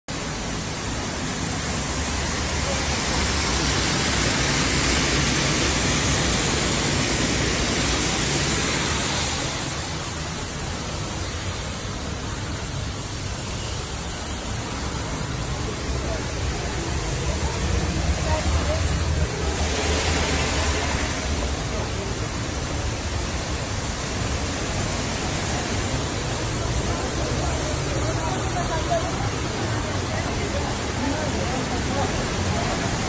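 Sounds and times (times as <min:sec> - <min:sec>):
waterfall rushing: 0:00.1 - 0:33.0.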